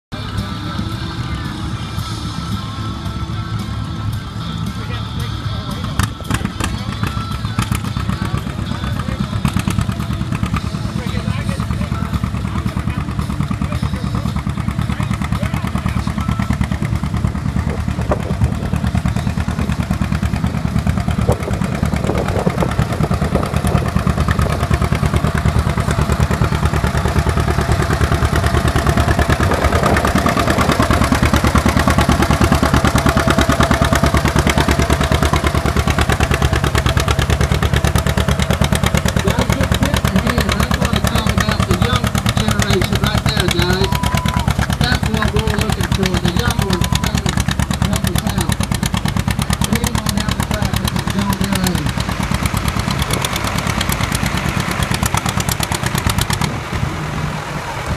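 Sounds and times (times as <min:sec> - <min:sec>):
tractor engine popping exhaust: 0:00.1 - 0:57.9.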